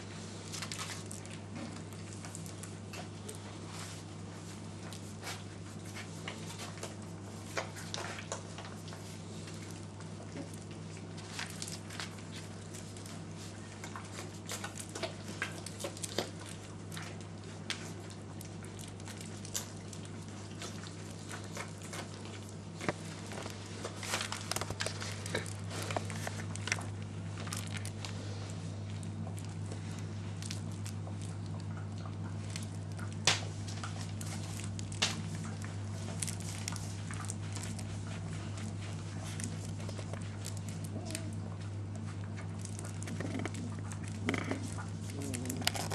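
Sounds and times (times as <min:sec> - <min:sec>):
puppy chewing toy: 0:00.5 - 0:45.9.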